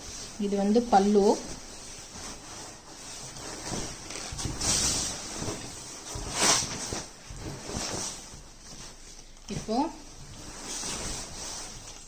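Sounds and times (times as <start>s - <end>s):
fabric rustling and swishing: 0.0s - 12.0s.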